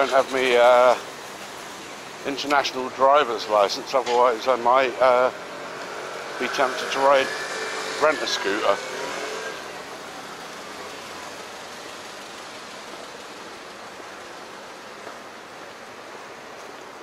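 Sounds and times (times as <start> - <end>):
hiss of passing cars: 0.0 - 17.0.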